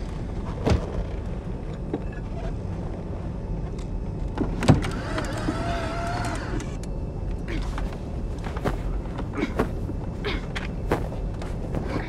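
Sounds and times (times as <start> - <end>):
vehicle cabin rumble: 0.0 - 12.0.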